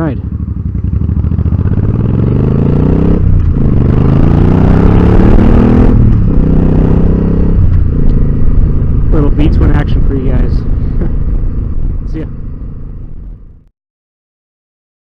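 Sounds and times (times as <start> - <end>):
motorcycle engine accelerating: 0.0 - 13.7.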